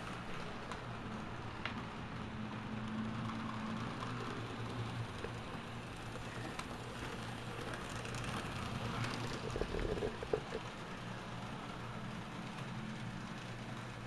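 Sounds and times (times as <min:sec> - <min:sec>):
model train running whir: 0:00.0 - 0:14.0.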